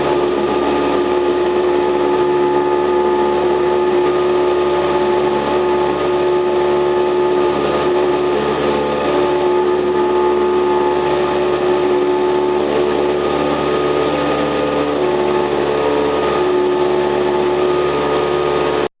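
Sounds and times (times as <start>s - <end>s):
airplane engine and propeller drone: 0.0s - 18.9s.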